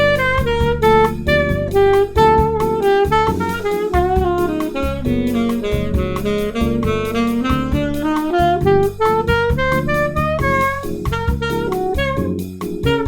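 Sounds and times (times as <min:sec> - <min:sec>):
bass and drums backing track: 0:00.0 - 0:13.0
saxophone improvising jazz: 0:00.0 - 0:13.0.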